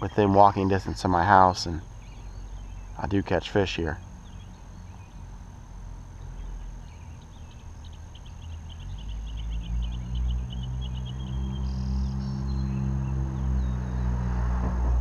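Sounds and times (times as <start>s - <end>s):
bird chirping: 0.0s - 14.4s
motor vehicle engine hum: 1.2s - 15.0s.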